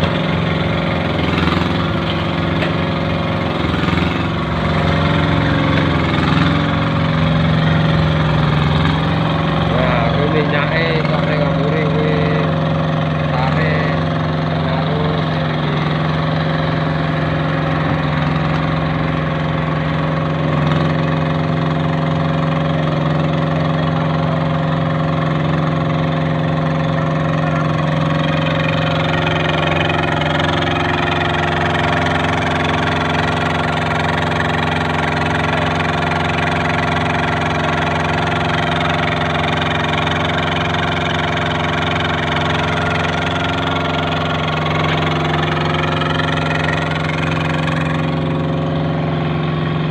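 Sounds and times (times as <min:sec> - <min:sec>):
machine engine humming: 0:00.0 - 0:49.9.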